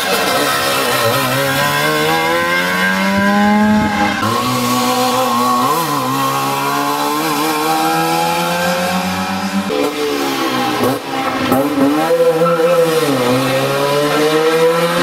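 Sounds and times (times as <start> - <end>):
two-stroke engines revving hard: 0.0 - 15.0.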